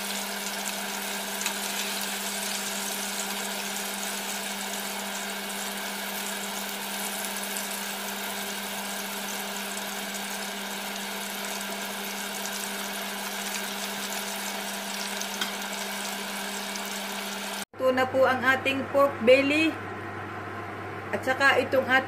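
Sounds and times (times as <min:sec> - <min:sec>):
stove motor hum: 0:00.0 - 0:17.7, 0:18.5 - 0:22.0.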